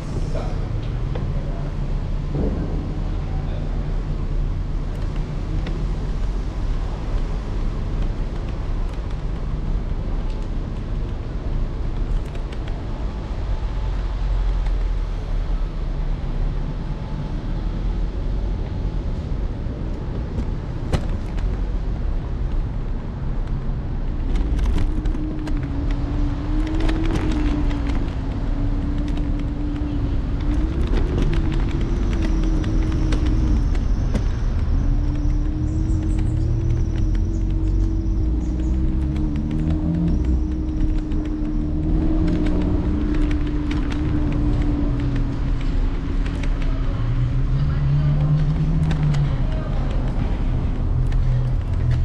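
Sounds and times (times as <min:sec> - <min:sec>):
electric scooter rumble: 0:00.0 - 0:52.0
wind buffeting microphone: 0:00.0 - 0:52.0
sharp clicks and rattles: 0:04.6 - 0:15.2, 0:19.9 - 0:52.0.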